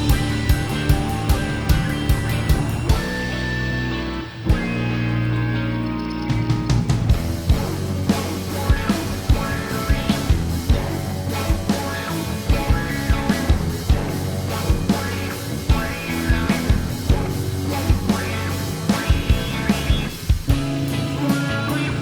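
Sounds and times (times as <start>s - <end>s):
background music with drum beat: 0.0s - 3.6s, 6.3s - 22.0s.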